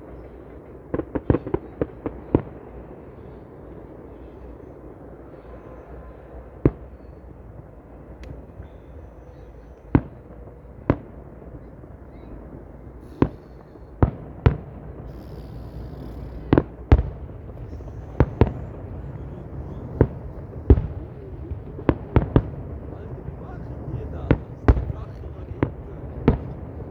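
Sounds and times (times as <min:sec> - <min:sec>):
fireworks bangs: 0:00.0 - 0:26.9
low background rumble: 0:00.0 - 0:26.9.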